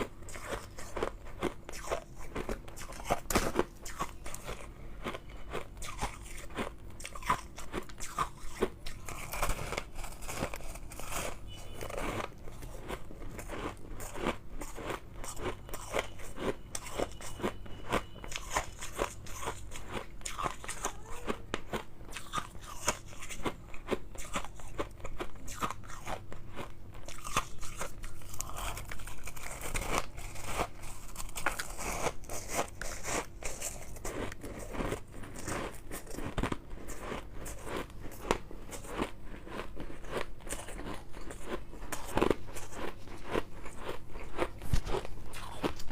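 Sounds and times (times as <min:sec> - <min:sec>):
chewing crunchy ice: 0:00.0 - 0:45.9.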